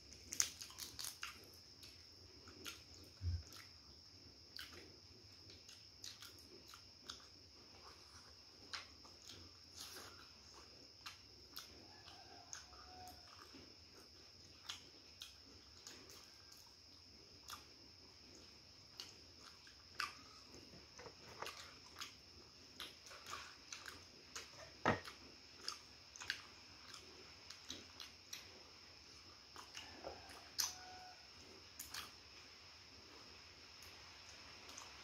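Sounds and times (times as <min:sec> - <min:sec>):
chewing and biting food: 0:00.0 - 0:30.8.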